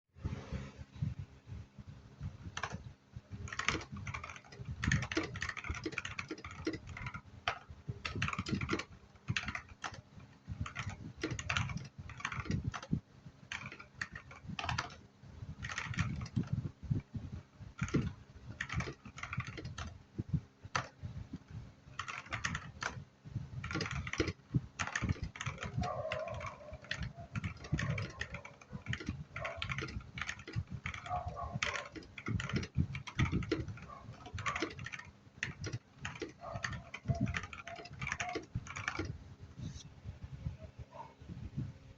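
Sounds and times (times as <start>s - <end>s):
mechanical keyboard typing: 2.5s - 39.2s.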